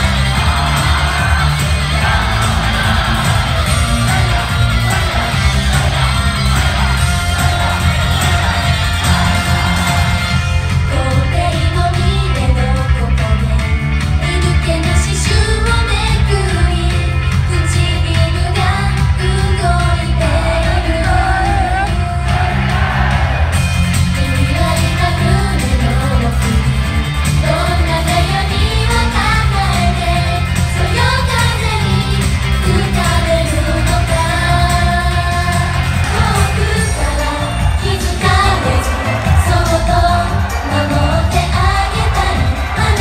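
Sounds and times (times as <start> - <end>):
group singing into microphones: 0.0 - 10.8, 17.8 - 23.5, 24.4 - 43.0
amplified pop music: 0.0 - 43.0.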